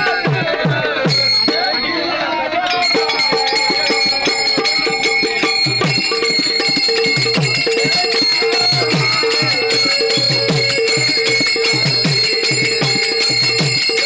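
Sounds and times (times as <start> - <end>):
hand drum fast beat: 0.0 - 1.8, 2.7 - 14.0
hand cymbals ringing: 1.0 - 14.0.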